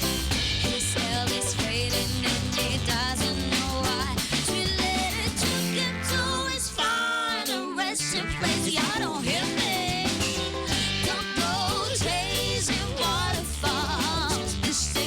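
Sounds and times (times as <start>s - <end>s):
drum kit: 0.0s - 15.0s
guitar: 0.0s - 15.0s
person singing: 0.7s - 15.0s.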